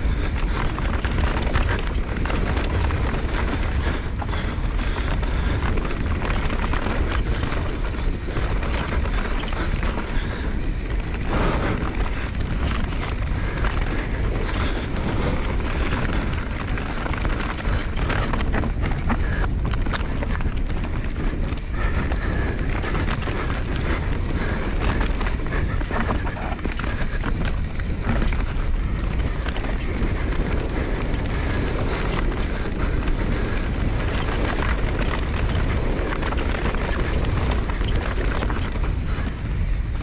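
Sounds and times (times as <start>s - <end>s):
bike tyres rolling on dirt: 0.0s - 40.0s
wind buffeting the microphone: 0.0s - 40.0s
bike and stones clattering: 0.1s - 40.0s.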